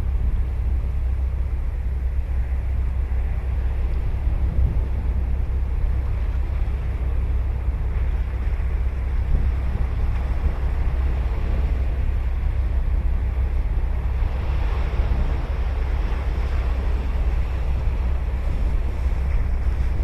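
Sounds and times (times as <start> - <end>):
waves breaking on a beach: 0.0 - 20.0
wind buffeting microphone: 0.0 - 20.0.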